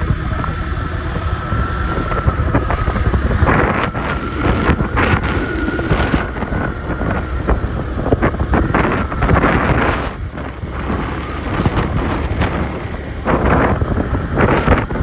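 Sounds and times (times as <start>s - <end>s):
motorcycle running: 0.0s - 15.0s
wind buffeting microphone: 0.0s - 15.0s.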